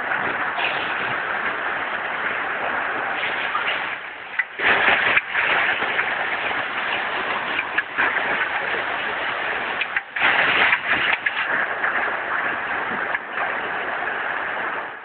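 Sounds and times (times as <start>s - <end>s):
hail and rain pelting down: 0.0s - 15.0s.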